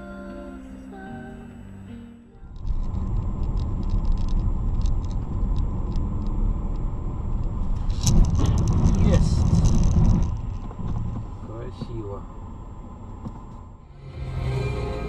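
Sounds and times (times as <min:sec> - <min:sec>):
car engine and tyre rumble: 0:02.3 - 0:15.0
rough engine surge: 0:02.4 - 0:15.0.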